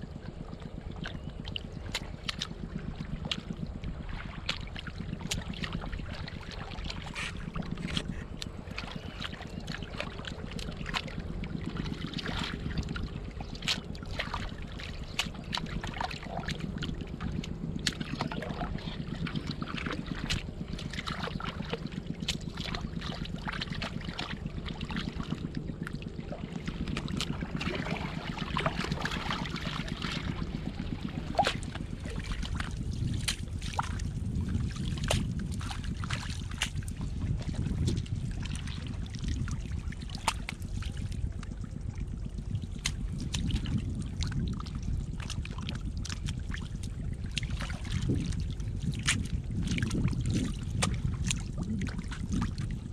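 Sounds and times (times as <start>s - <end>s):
steady low rumble: 0.0s - 52.9s
water and mud squelching: 0.0s - 52.9s.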